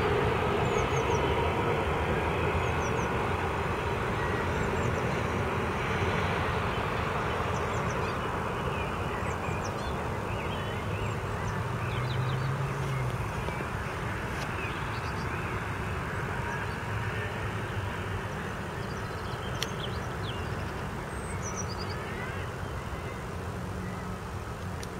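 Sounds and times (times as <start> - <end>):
jet engines rushing drone: 0.0 - 24.9.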